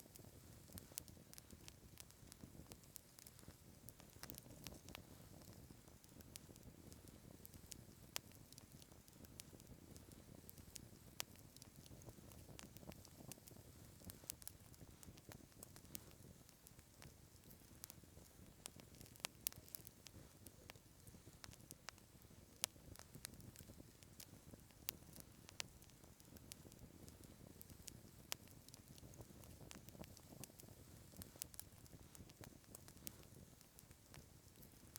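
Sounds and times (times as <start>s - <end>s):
campfire crackling and popping: 0.0s - 34.9s
low steady hiss: 0.0s - 34.9s.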